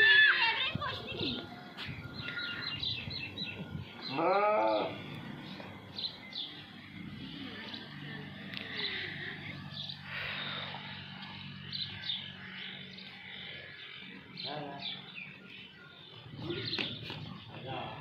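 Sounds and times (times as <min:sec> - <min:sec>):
small birds chirping: 0:00.2 - 0:18.0.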